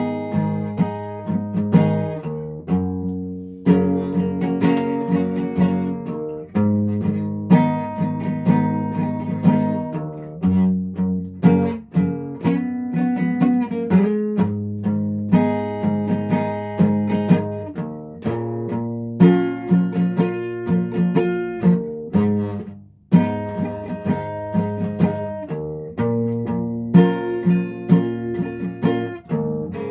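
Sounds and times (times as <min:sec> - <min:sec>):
guitar chords strummed: 0:00.0 - 0:29.9.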